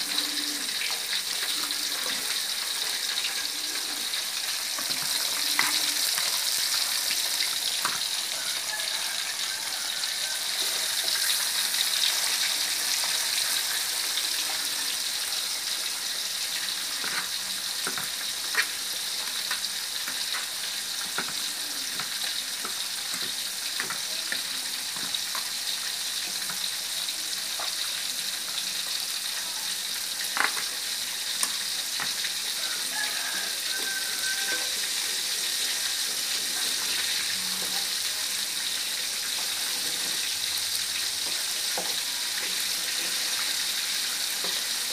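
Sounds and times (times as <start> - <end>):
fish sizzling in hot oil: 0.0 - 44.9.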